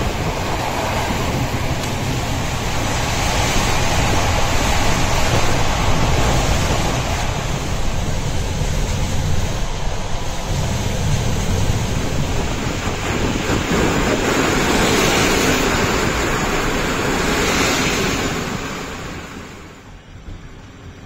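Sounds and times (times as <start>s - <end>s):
train wheels on rail: 0.0s - 21.0s
wind buffeting microphone: 0.0s - 21.0s.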